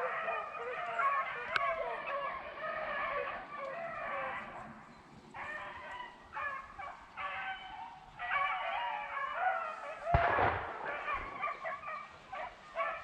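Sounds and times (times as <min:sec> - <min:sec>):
beagles baying: 0:00.0 - 0:13.0.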